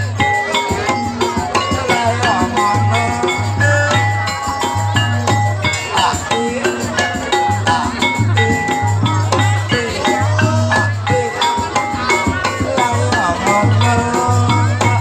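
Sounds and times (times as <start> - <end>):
jingling bells: 0.0 - 15.0
rattle-like percussion: 0.0 - 15.0.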